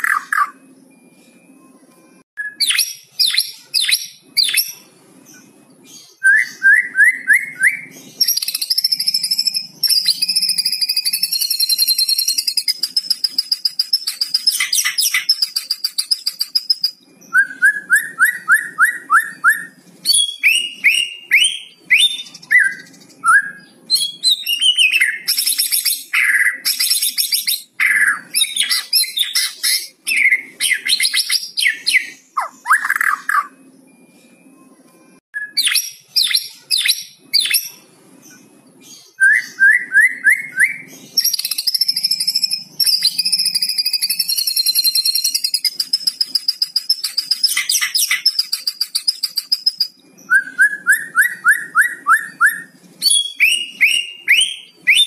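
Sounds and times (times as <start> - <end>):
songbird whistled notes: 6.0 - 34.7, 39.0 - 55.0.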